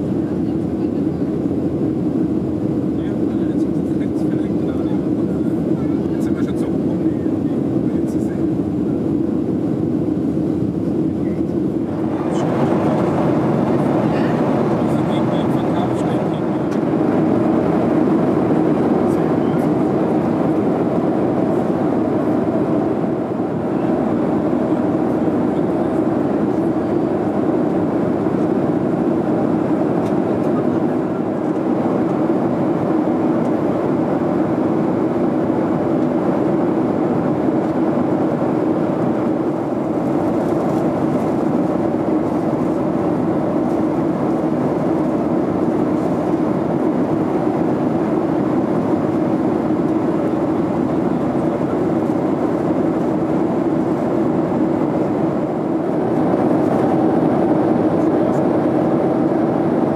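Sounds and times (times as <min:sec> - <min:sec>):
airplane cabin airflow and engine: 0:00.0 - 0:59.9.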